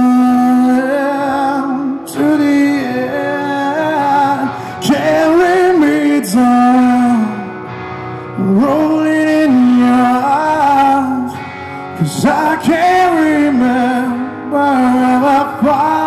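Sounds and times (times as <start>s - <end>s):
man singing with vibrato: 0.0s - 16.0s
rock band playing: 0.0s - 16.0s.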